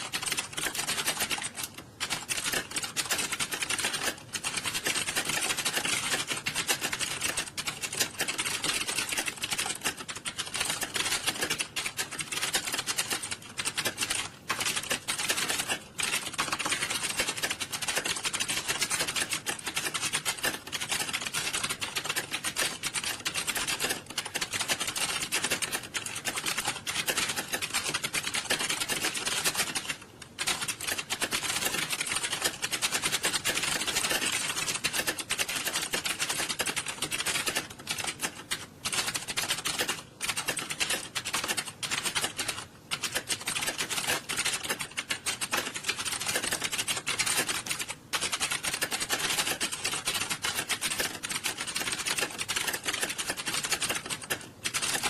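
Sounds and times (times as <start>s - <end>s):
keyboards typing fast: 0.0s - 55.0s.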